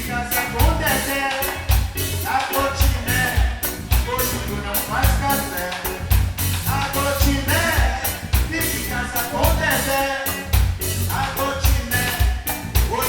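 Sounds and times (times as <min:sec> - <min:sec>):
person singing: 0:00.0 - 0:13.0
steady drum beat: 0:00.0 - 0:13.0.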